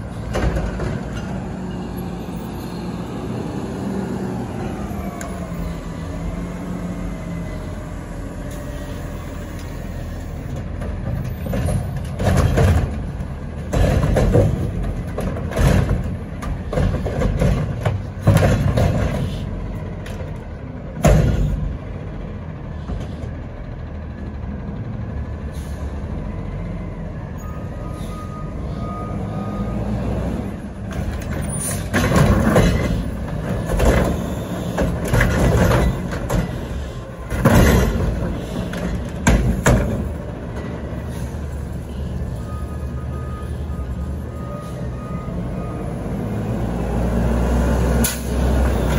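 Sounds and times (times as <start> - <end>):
garbage truck engine and hydraulics: 0.0 - 48.9.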